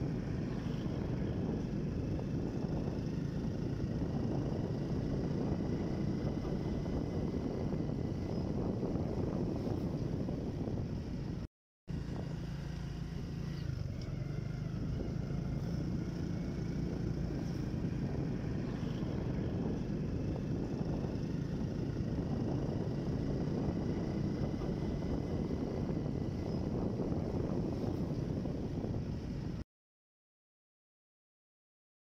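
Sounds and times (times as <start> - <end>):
car engine and tyre noise: 0.0 - 29.6.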